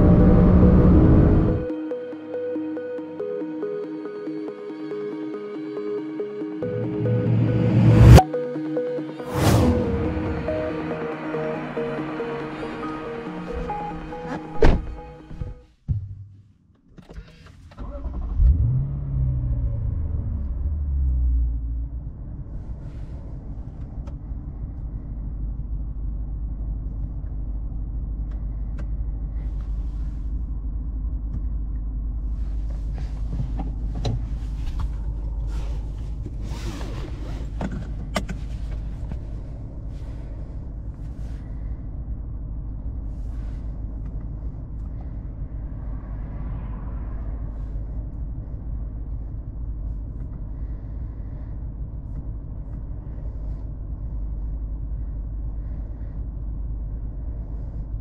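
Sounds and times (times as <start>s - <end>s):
car engine low rumble: 0.0s - 58.0s.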